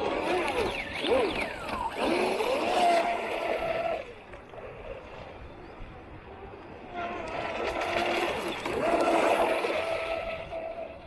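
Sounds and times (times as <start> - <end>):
electric boat motor whining: 0.0 - 11.0.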